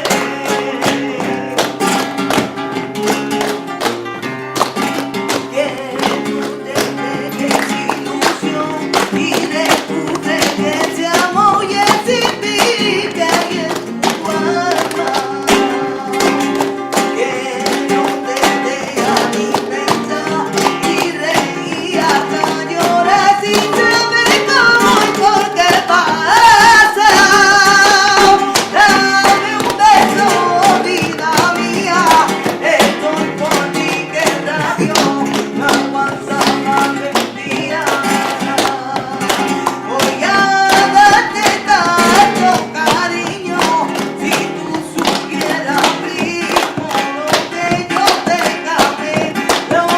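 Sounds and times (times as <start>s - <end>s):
person singing: 0.0s - 3.2s, 5.3s - 49.9s
flamenco guitar: 0.0s - 49.9s.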